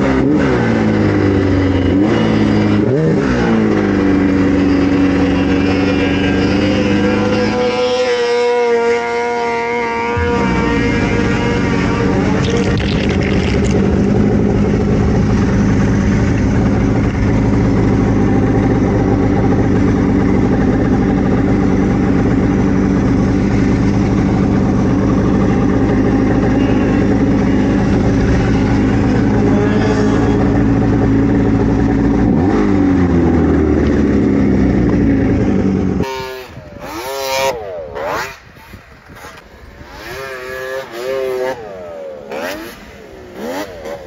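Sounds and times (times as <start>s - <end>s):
snowmobile engine revving: 0.0s - 44.0s.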